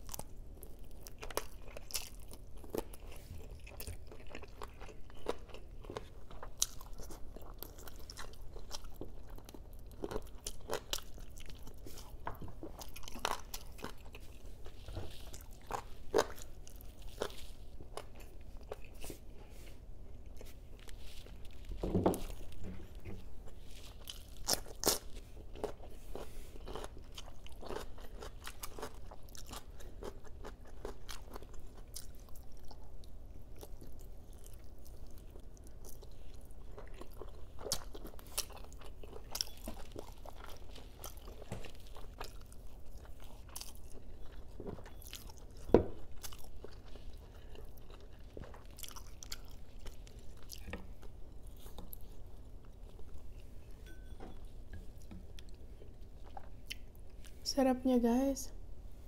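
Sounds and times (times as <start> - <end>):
chewing and biting: 0.0 - 19.4, 20.2 - 54.0.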